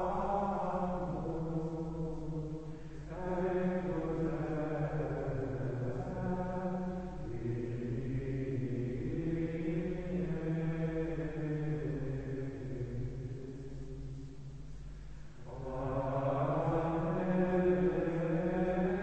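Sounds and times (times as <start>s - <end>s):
men singing plainchant in unison: 0.0s - 13.1s, 15.5s - 19.0s.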